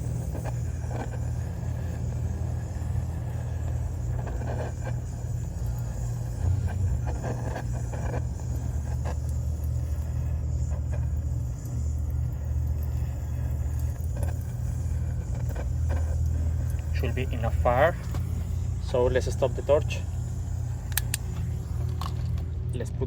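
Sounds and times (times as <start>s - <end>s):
gas torch flame rumbling: 0.0s - 23.0s.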